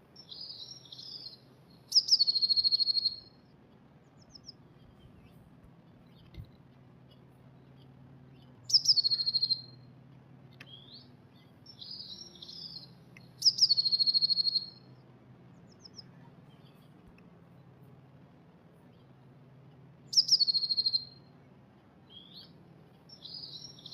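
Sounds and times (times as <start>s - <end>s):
blue tit song with trill: 0.0s - 23.9s
soft bird twittering: 0.2s - 9.9s, 10.5s - 17.6s, 20.0s - 23.9s.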